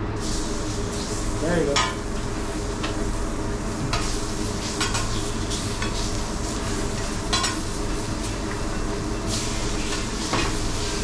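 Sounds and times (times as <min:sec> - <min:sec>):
fish sizzling on a griddle: 0:00.2 - 0:11.0.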